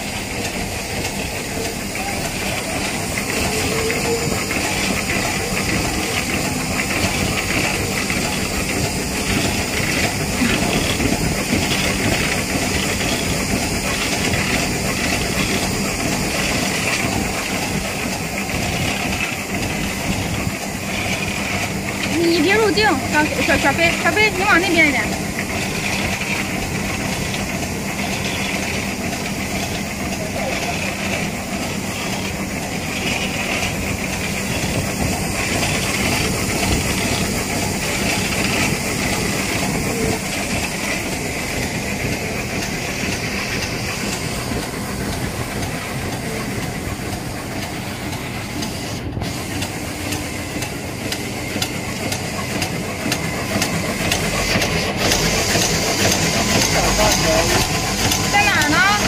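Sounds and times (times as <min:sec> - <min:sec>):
packaging machine running: 0:00.0 - 0:59.0.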